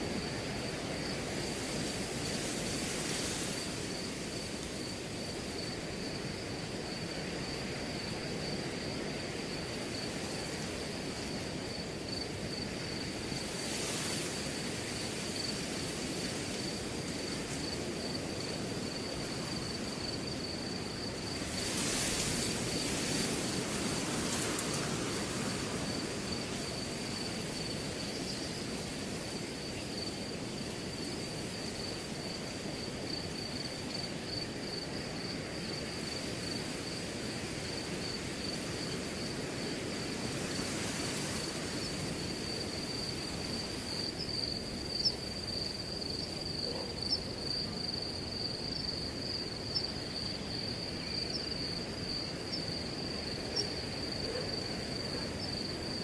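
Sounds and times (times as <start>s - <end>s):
cricket trilling: 0.0s - 56.0s
wind rustling through grass: 0.0s - 56.0s.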